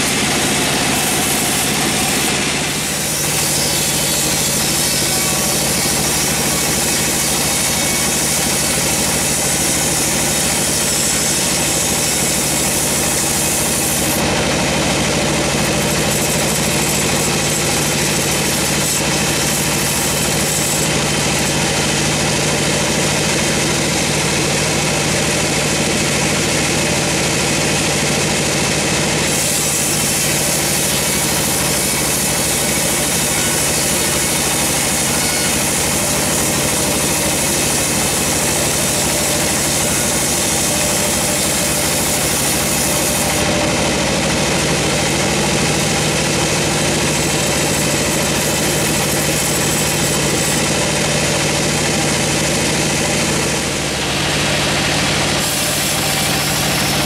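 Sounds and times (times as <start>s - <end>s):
band saw blade cutting log: 0.0s - 57.0s
sawmill motor hum: 0.0s - 57.0s.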